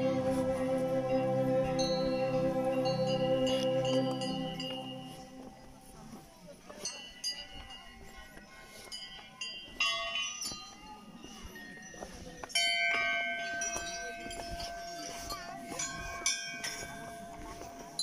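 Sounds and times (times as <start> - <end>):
metal bells ringing: 1.8 - 5.6, 6.7 - 18.0.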